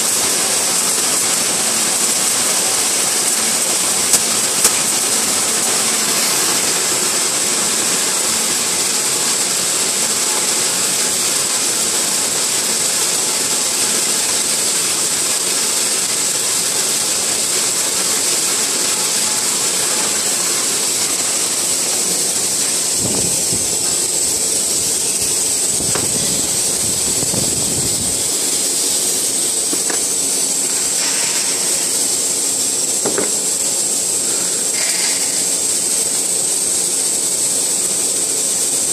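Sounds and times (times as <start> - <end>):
sorting machine hissing: 0.0 - 38.9.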